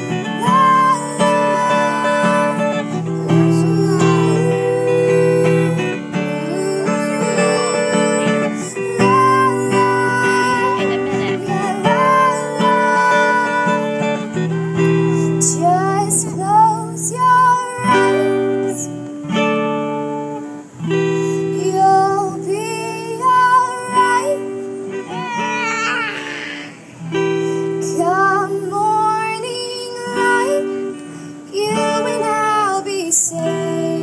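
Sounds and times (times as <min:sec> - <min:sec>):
wordless singing: 0:00.0 - 0:14.6, 0:21.3 - 0:34.0
strummed acoustic guitar: 0:00.0 - 0:34.0.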